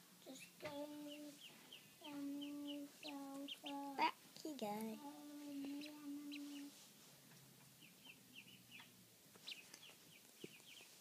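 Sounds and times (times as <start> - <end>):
duckling peeping: 0.3 - 4.2, 5.0 - 6.8, 7.6 - 11.0.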